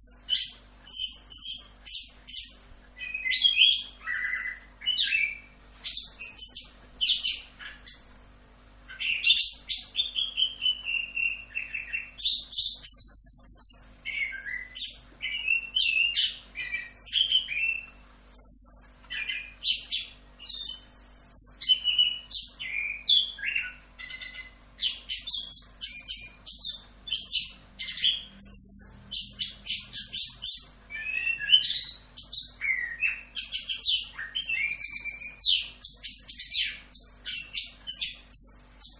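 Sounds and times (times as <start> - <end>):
bird singing whistles and trills: 0.0 - 8.2, 8.9 - 38.9.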